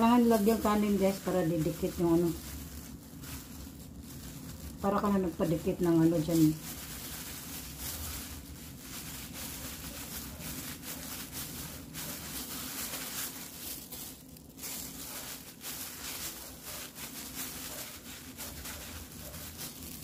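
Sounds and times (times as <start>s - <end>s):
plastic gloves crinkling: 0.0s - 20.0s.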